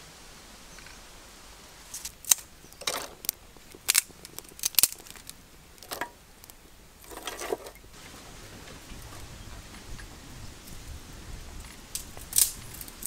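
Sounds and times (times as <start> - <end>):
twig fire crackling and popping: 1.8 - 13.0.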